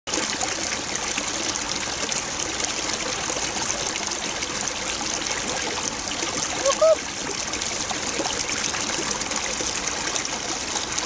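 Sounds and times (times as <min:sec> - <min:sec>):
stream trickling: 0:00.1 - 0:11.0.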